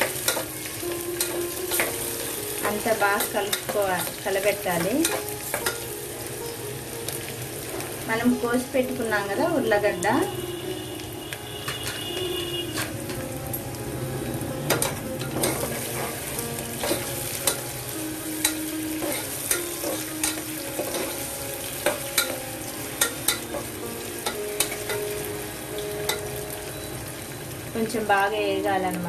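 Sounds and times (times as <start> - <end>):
food frying in oil: 0.0 - 29.0.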